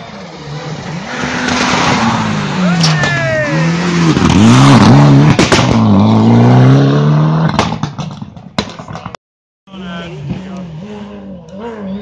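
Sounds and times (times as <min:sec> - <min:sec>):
rally car engine revving: 0:00.0 - 0:08.2, 0:09.7 - 0:12.0.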